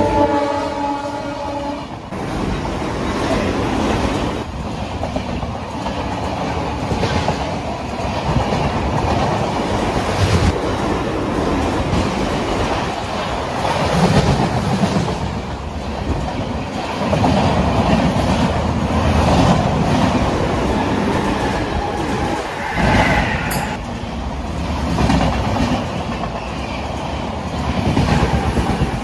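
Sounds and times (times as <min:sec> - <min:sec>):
trains rumbling past: 0:00.0 - 0:29.0.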